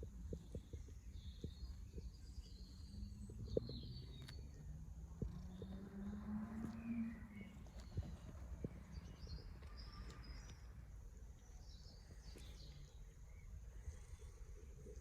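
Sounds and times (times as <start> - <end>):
faint bird chirps: 0.0 - 15.0
low background rumble: 0.0 - 15.0.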